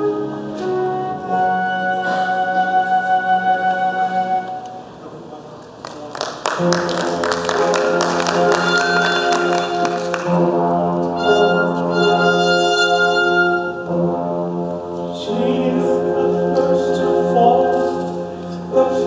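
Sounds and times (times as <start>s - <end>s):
orchestral brass chords: 0.0s - 4.9s, 6.5s - 19.0s.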